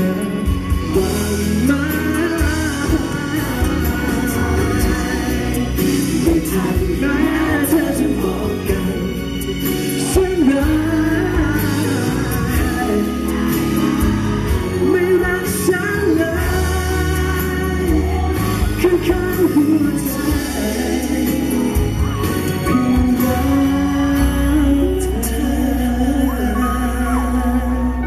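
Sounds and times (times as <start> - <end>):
backing music: 0.0 - 28.0
man singing into microphone: 0.0 - 28.0.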